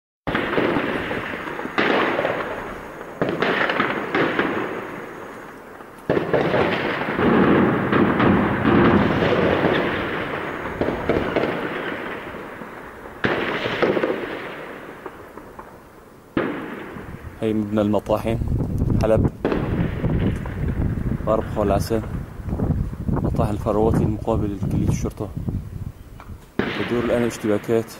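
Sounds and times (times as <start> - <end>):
gunfire with rolling echo: 0.3 - 18.0, 19.4 - 22.8, 26.6 - 27.9.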